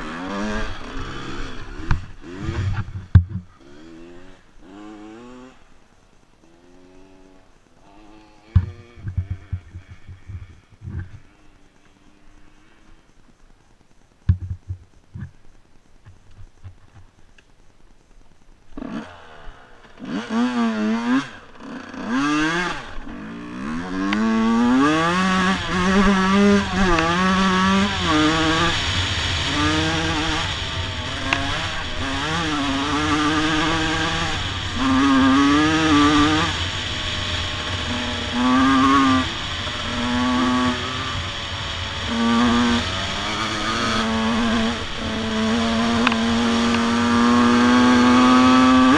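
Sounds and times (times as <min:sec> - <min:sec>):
dirt bike engine revving: 0:00.0 - 0:13.0, 0:18.7 - 0:48.9.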